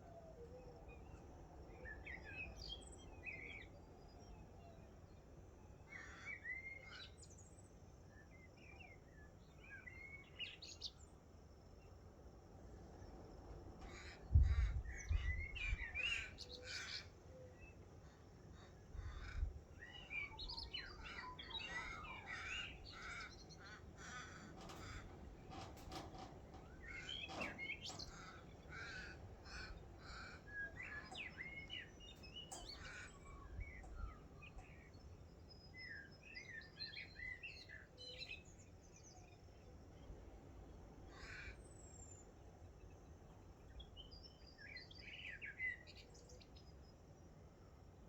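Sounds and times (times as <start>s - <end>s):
faint birds chirping and warbling: 0.0s - 48.0s.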